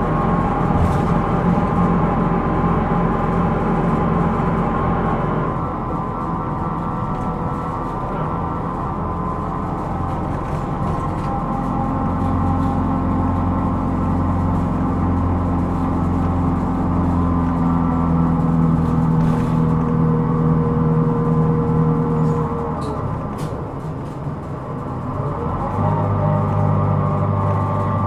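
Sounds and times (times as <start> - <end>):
bus diesel engine under load: 0.0 - 28.0
steady engine whine: 0.0 - 28.0.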